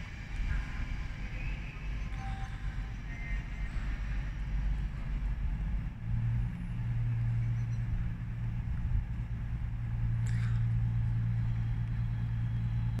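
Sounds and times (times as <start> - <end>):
low rumble: 0.0 - 13.0
train electric hum: 0.0 - 13.0.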